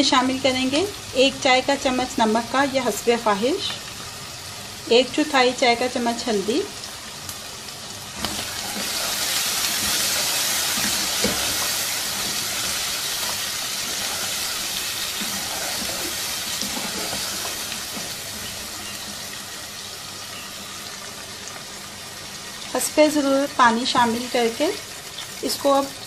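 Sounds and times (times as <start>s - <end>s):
meat and onion sizzling in oil: 0.0s - 26.0s.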